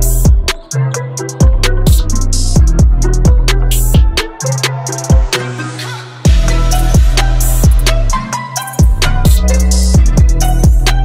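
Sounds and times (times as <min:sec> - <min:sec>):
hip-hop beat with bass and synth: 0:00.0 - 0:11.0.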